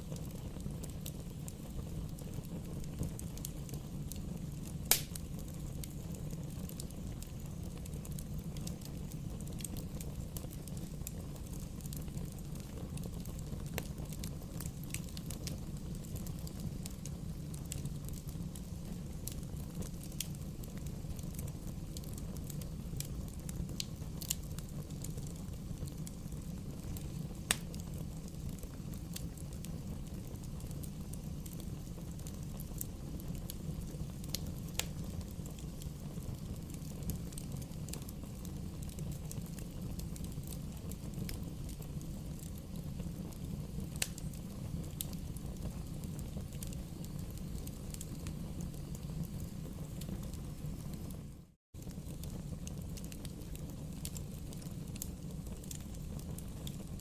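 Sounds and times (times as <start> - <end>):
bonfire flames rumbling: 0.0 - 57.0
fire crackling and popping: 0.0 - 57.0.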